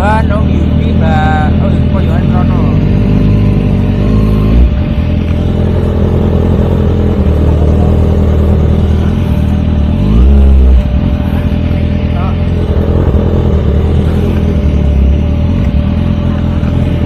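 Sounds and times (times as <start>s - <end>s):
motorcycle engine idling: 0.0s - 17.0s
motorcycle throttle blips: 2.6s - 17.0s.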